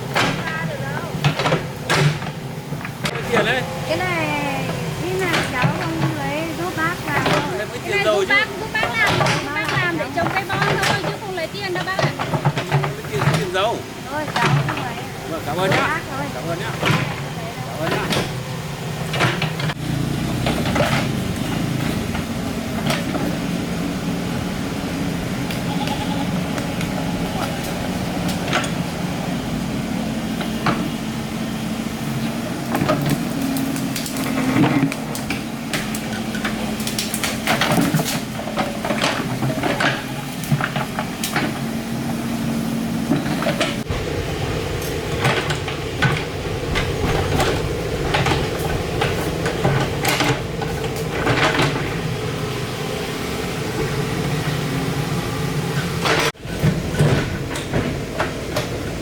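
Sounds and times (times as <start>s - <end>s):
metal clanks and knocks: 0.0s - 24.1s, 25.3s - 29.3s, 32.2s - 42.4s, 44.7s - 52.5s, 55.8s - 59.0s
excavator diesel engine running: 0.0s - 59.0s.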